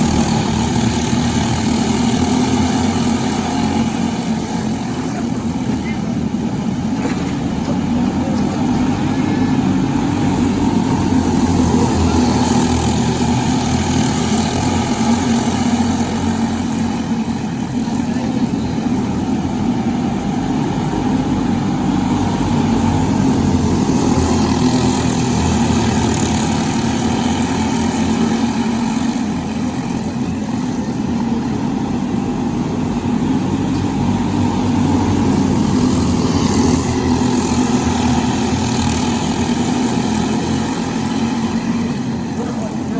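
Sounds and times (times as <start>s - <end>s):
kart engine running: 0.0s - 42.9s.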